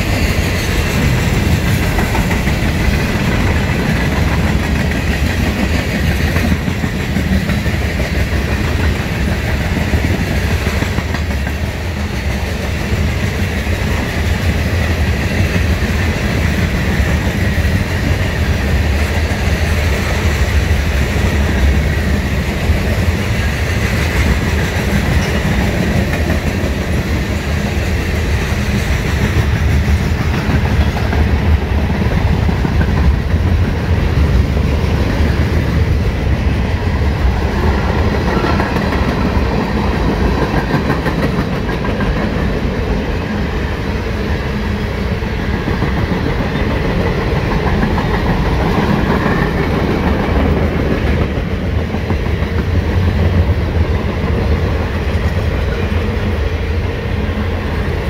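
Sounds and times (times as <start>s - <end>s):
freight train cars rolling past: 0.0s - 58.0s.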